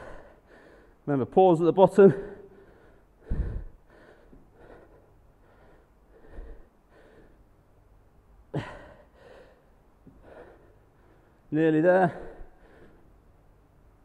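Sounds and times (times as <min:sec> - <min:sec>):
man breathing hard: 0:00.0 - 0:01.0, 0:02.1 - 0:07.6, 0:08.5 - 0:13.3.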